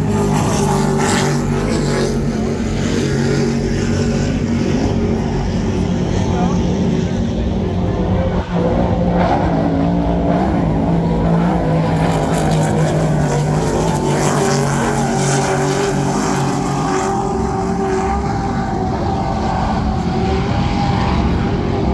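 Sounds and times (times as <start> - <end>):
powerboat engines droning: 0.0 - 21.9.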